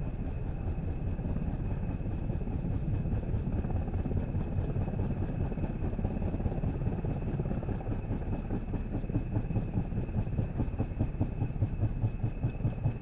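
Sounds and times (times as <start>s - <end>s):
constant high whine: 0.0s - 13.0s
helicopter engine: 0.0s - 13.0s
helicopter rotor beating: 0.0s - 13.0s.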